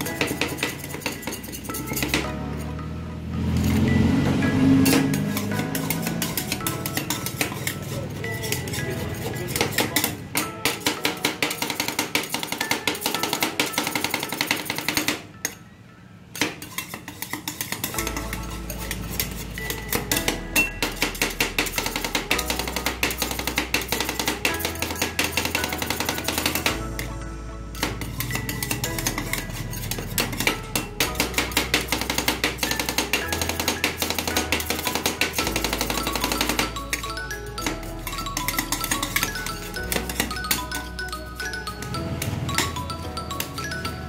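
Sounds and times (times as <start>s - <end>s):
metal spatulas tapping and scraping: 0.0s - 2.7s, 4.8s - 15.6s, 16.4s - 27.2s, 27.8s - 42.8s.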